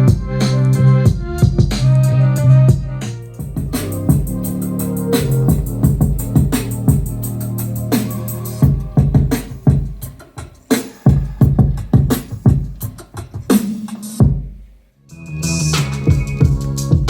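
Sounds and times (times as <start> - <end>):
music with punchy drum beat: 0.0 - 14.8, 15.6 - 17.0.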